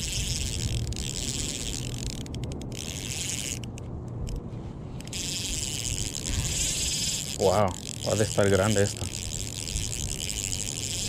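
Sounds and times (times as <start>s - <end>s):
fishing reel being cranked: 0.0s - 4.4s, 5.0s - 11.0s.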